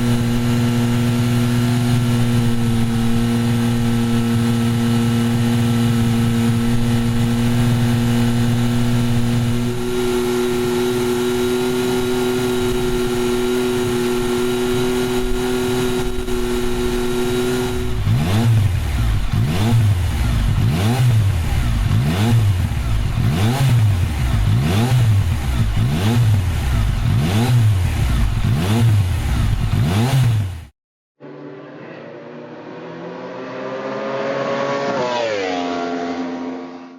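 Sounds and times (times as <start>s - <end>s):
engine blips: 0.0s - 36.8s
motorcycle engine revving: 0.0s - 36.9s.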